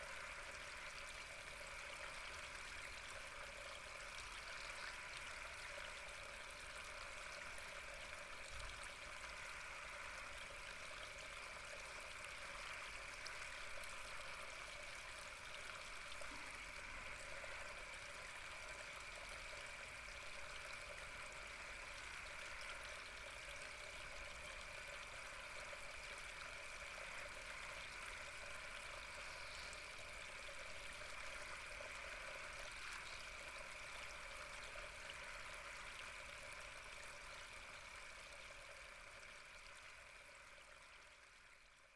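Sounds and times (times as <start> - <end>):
water flowing and trickling: 0.0 - 41.8.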